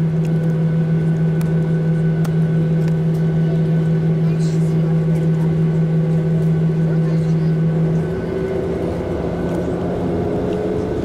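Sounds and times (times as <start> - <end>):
jet engines droning at idle: 0.0 - 11.0
strong low hum: 0.0 - 11.0.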